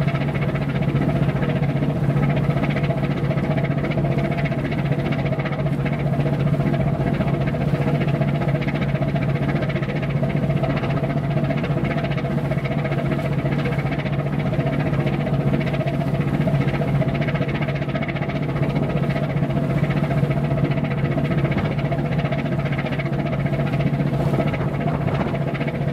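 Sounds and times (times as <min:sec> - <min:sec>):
ship diesel engine droning: 0:00.0 - 0:25.9.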